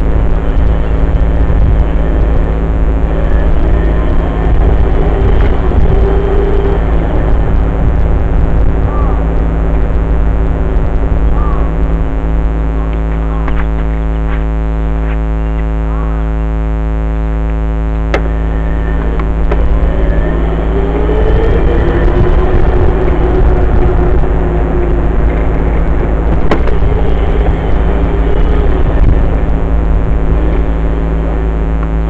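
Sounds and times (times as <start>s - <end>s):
dirt bike engine running: 0.0s - 32.0s
wind rumble on microphone: 0.0s - 32.0s.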